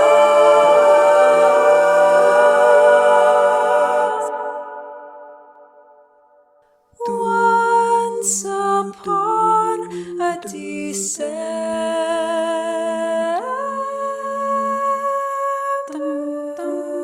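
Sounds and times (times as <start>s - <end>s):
a cappella voices in harmony: 0.0s - 6.4s, 7.0s - 17.0s.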